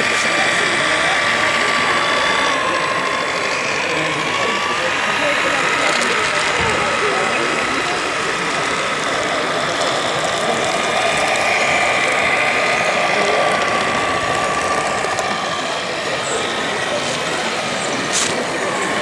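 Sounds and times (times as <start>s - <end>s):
toy tank motors whirring and clattering: 0.0s - 19.0s.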